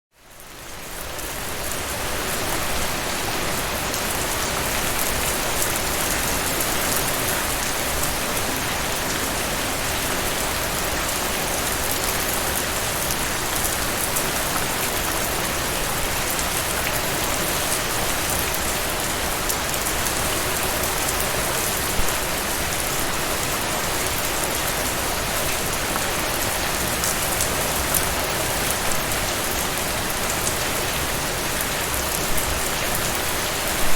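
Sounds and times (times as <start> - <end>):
heavy rain falling: 0.2 - 33.9.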